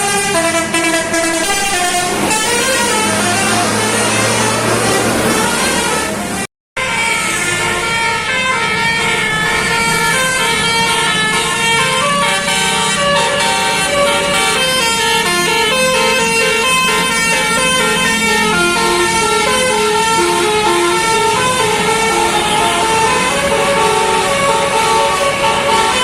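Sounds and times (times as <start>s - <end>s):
bus horn playing a tune: 0.0s - 26.0s.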